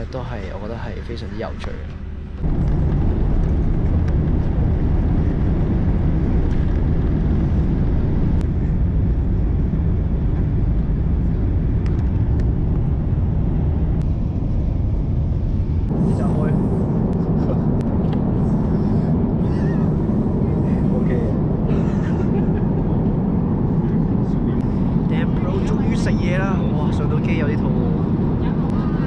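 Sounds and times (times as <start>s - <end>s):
airliner cabin jet engine hum: 0.0s - 29.0s
rushing air: 0.0s - 29.0s.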